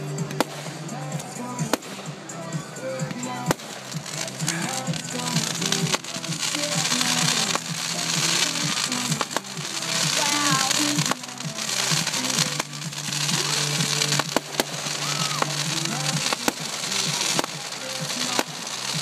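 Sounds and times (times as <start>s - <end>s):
crackling hiss of fireworks: 0.0s - 19.0s
music: 0.0s - 19.0s
firework bangs: 0.1s - 19.0s.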